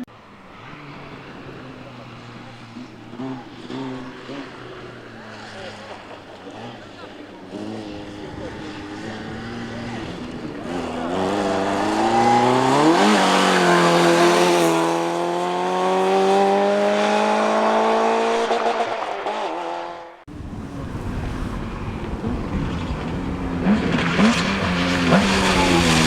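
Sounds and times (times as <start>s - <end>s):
rally car engine accelerating: 0.0s - 26.0s
rally car engine revving: 0.0s - 26.0s.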